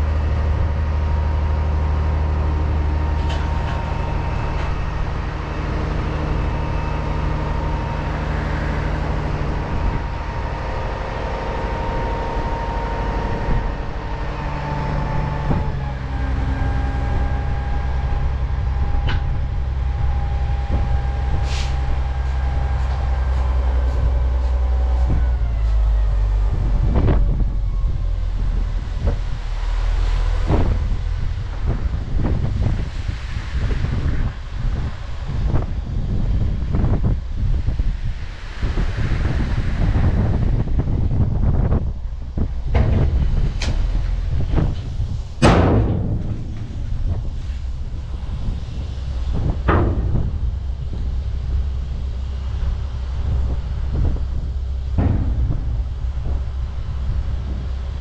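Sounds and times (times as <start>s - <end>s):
thin engine whine: 0.0s - 58.0s
truck engine droning: 0.0s - 58.0s.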